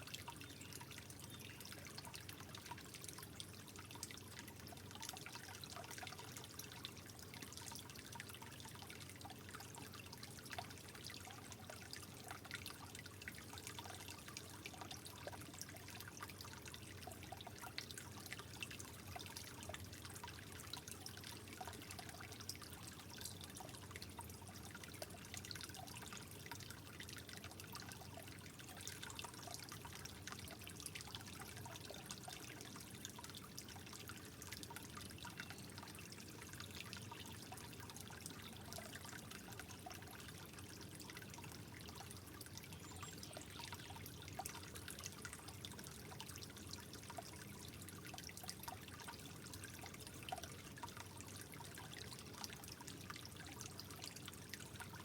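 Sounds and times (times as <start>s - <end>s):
water drips and splashes: 0.0s - 55.0s
water trickling: 0.0s - 55.0s.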